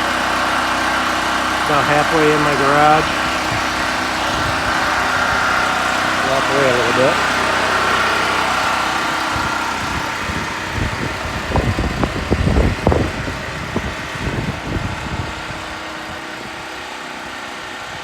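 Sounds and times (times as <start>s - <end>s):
generator engine running: 0.0s - 18.0s.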